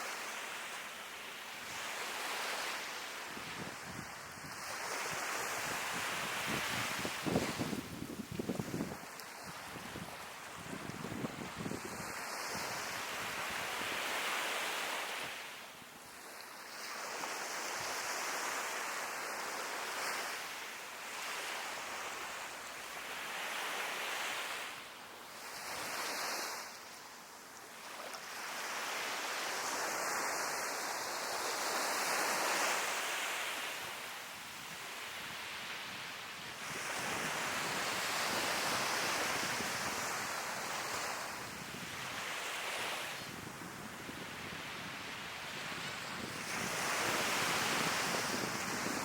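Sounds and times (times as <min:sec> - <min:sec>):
sea waves breaking on shore: 0:00.0 - 0:49.0.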